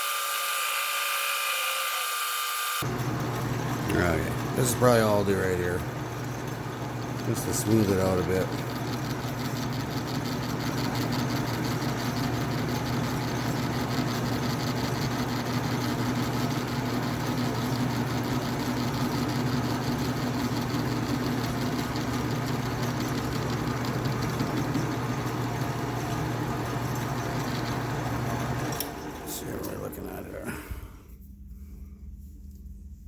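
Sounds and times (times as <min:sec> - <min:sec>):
metal lathe humming: 0:00.0 - 0:29.9.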